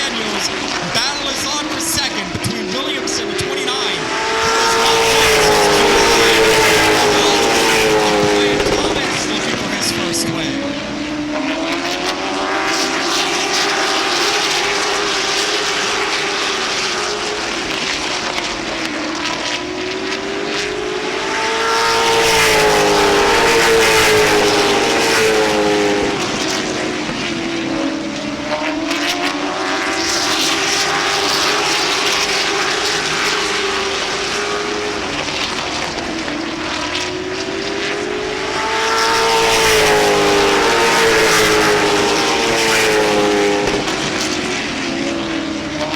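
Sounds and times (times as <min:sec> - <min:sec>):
race car engines passing: 0:00.0 - 0:45.9.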